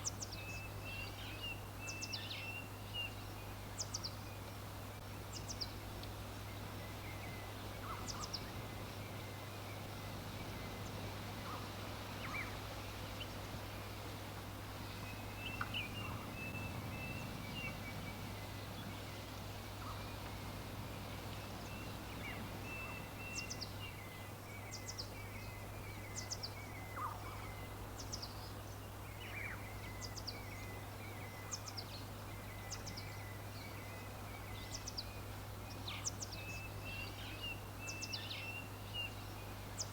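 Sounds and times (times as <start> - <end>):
low hum and hiss: 0.0 - 39.9
small birds chirping: 0.0 - 39.9.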